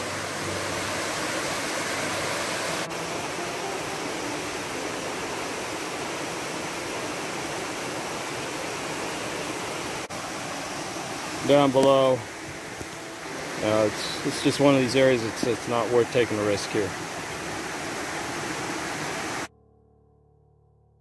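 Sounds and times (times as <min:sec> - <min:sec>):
waterfall rushing over rocks: 0:00.0 - 0:19.5.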